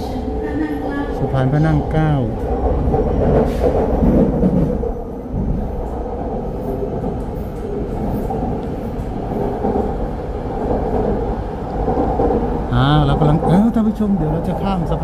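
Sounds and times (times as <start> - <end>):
train rumbling in motion: 0.0 - 15.0.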